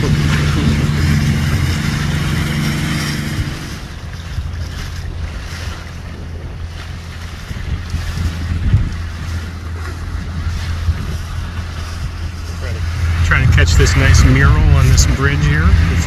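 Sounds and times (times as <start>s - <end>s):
boat motor running: 0.0s - 16.0s
louder engine hum: 0.0s - 16.0s
water rushing past hull: 0.0s - 16.0s
wind on microphone: 0.0s - 16.0s.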